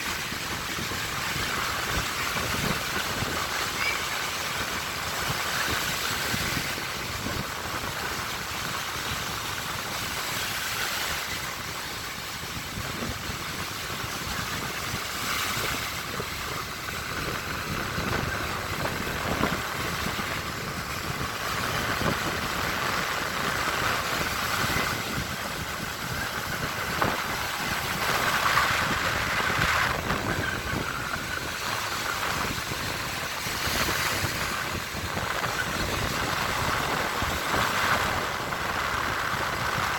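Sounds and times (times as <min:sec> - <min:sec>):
waves washing onto shore: 0:00.0 - 0:39.9.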